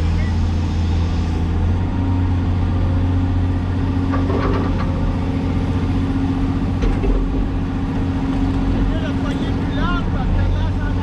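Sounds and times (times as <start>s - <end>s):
excavator diesel engine humming: 0.0s - 11.0s.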